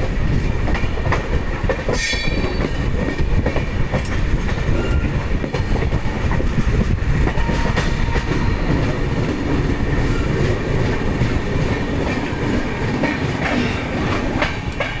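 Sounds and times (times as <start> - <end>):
train wheels clickety-clack on track: 0.0 - 15.0.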